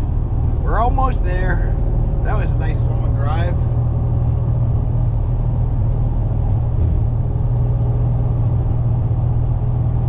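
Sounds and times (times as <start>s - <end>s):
truck engine drone inside cab: 0.0s - 10.0s.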